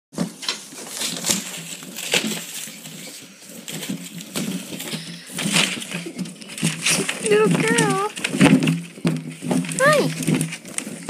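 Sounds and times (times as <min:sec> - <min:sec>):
scuffling and rustling: 0:00.2 - 0:11.0.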